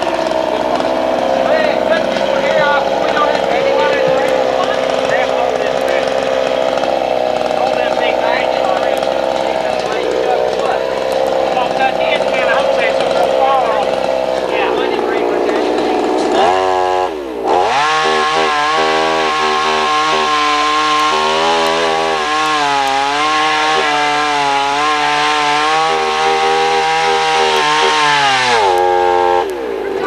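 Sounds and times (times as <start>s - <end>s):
chainsaw cutting wood: 0.0s - 30.0s.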